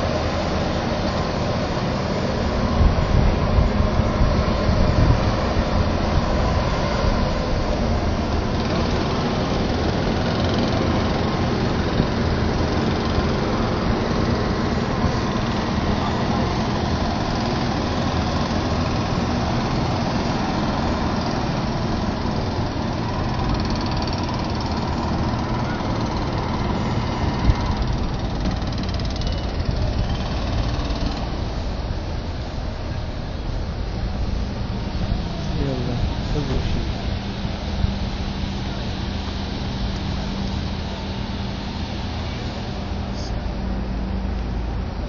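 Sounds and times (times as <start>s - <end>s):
busy open-air background: 0.0s - 45.0s
faint steady whine: 0.0s - 45.0s
mechanical motor drone: 0.0s - 45.0s.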